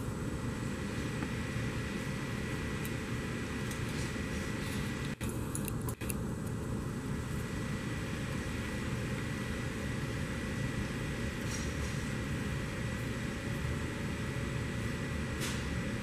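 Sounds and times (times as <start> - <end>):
mechanical hum and hiss: 0.0 - 16.0.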